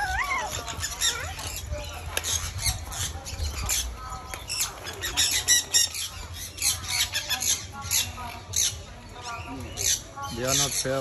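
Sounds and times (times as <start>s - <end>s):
parrots squawking: 0.0s - 10.8s.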